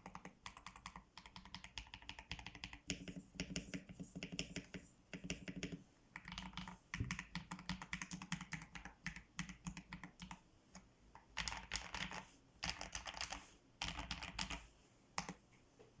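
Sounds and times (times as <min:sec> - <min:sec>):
mechanical keyboard typing: 0:00.0 - 0:10.4, 0:11.4 - 0:14.6.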